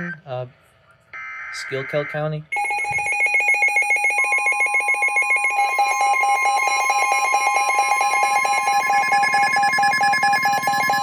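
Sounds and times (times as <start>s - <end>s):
fast-pulsing electronic alarm beep: 1.2s - 11.0s
steady high alert tone: 1.5s - 11.0s.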